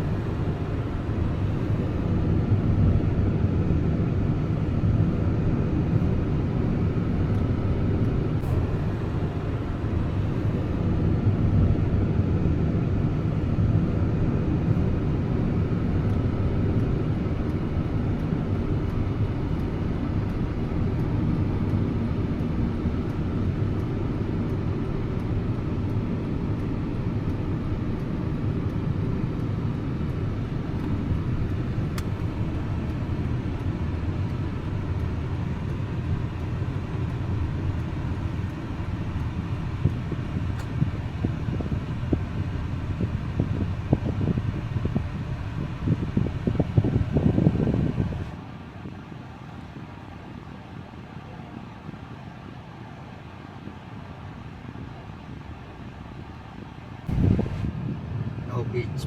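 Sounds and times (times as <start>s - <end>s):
car driving rumble from inside: 0.0s - 48.6s, 56.9s - 59.0s.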